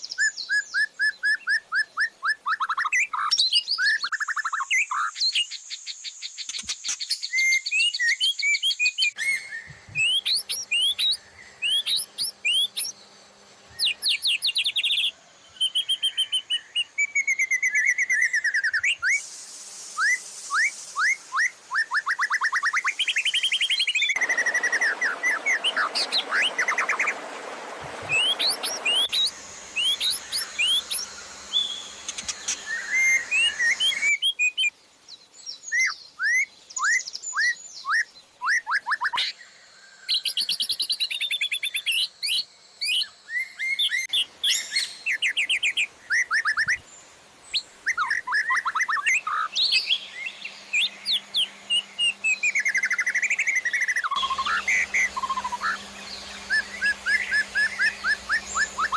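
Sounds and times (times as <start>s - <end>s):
songbirds trilling and whistling: 0.0s - 19.2s, 20.0s - 58.9s.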